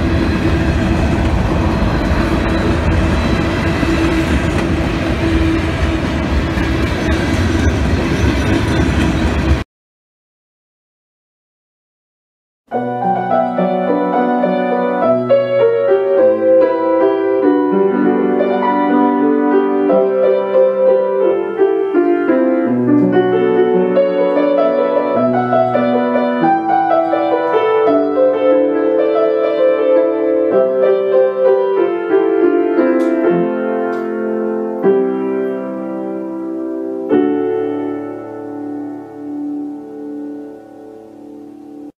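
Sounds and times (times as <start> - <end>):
piano music: 0.0 - 9.6, 12.7 - 41.9.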